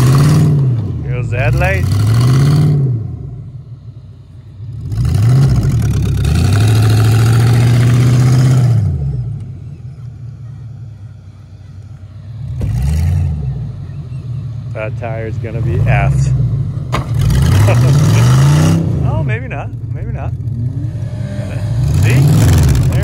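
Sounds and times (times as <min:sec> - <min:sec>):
truck engine revving hard: 0:00.0 - 0:03.6, 0:04.7 - 0:09.5, 0:12.3 - 0:23.0.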